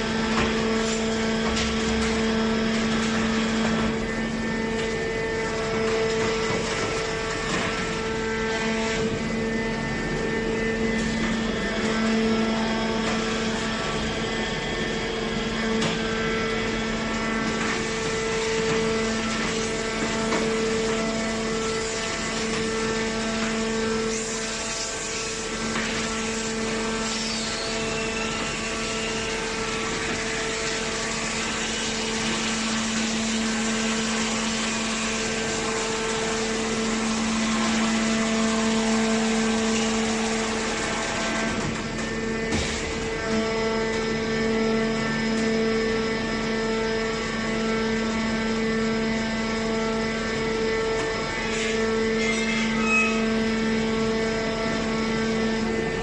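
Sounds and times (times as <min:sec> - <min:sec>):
hydraulic power unit humming: 0:00.0 - 0:56.0
pump whining: 0:00.0 - 0:56.0.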